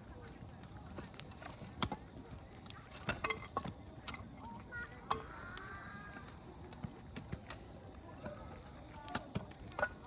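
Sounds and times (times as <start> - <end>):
campfire crackling and popping: 0.0 - 10.0
distant children's voices: 0.0 - 10.0.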